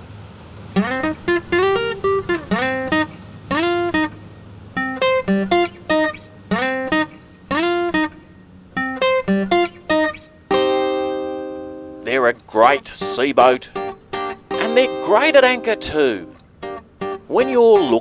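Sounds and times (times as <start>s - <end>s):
acoustic guitar sliding notes: 0.8s - 18.0s.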